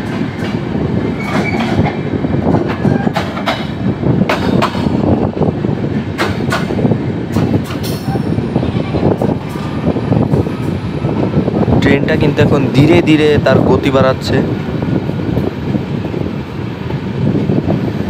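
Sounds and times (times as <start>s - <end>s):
rumble of train coaches: 0.0s - 18.0s.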